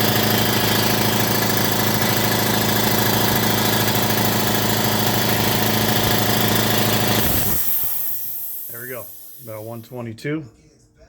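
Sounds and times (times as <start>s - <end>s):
air compressor running: 0.0s - 10.1s.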